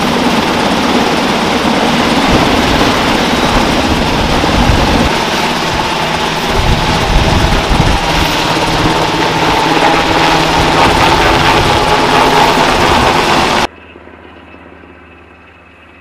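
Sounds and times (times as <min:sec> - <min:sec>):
helicopter rotor beating: 0:00.0 - 0:16.0
turbine whine: 0:00.0 - 0:16.0.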